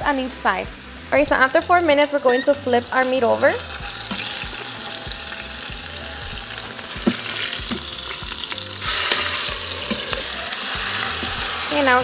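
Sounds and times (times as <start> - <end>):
meat sizzling in hot oil: 0.2 - 12.0.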